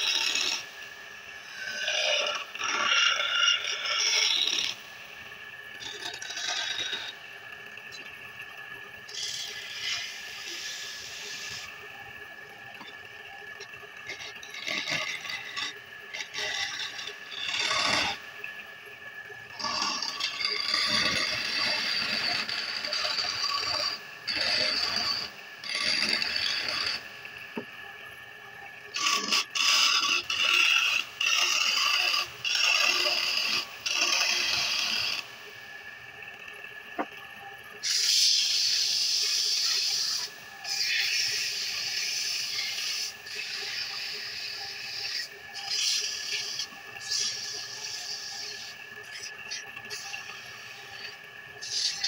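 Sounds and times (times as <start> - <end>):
wood lathe humming: 1.4 - 8.0, 9.1 - 18.7, 19.5 - 27.8, 28.8 - 37.1, 37.8 - 52.0
tool scraping spinning wood: 1.6 - 4.9, 5.5 - 8.1, 9.1 - 18.2, 19.5 - 27.8, 28.9 - 35.3, 37.8 - 52.0.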